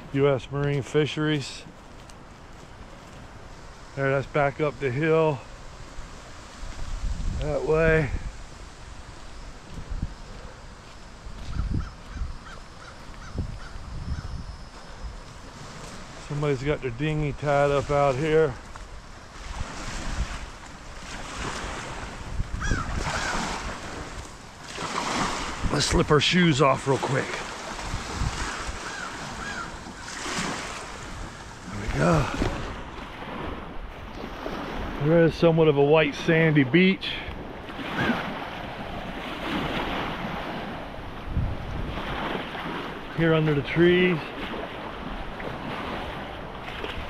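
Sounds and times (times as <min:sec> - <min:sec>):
waves washing on shore: 0:00.0 - 0:12.1, 0:14.6 - 0:47.0
wind buffeting microphone: 0:05.8 - 0:26.3, 0:27.2 - 0:36.2, 0:37.2 - 0:47.0.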